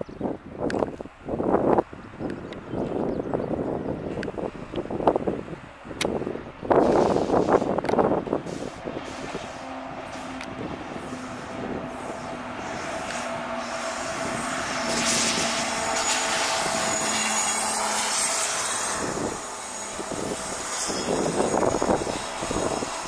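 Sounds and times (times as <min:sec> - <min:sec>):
train wheels rumbling on rails: 0:00.7 - 0:23.0
wheels clacking over rail joints: 0:04.2 - 0:23.0.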